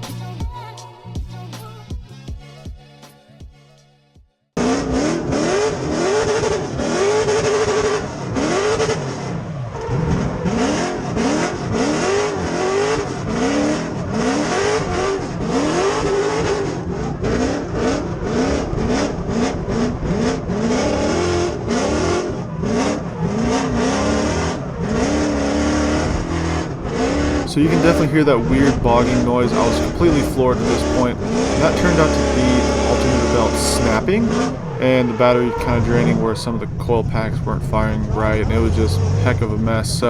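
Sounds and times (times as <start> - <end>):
car engine revving and stuttering: 4.6 - 40.0.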